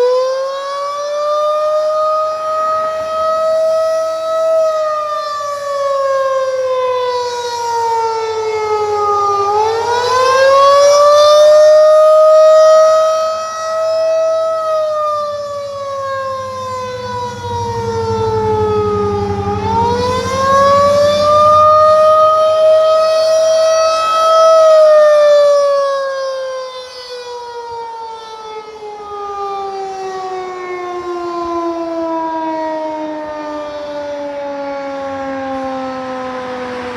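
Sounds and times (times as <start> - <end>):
warning siren rising and falling: 0.0 - 36.9.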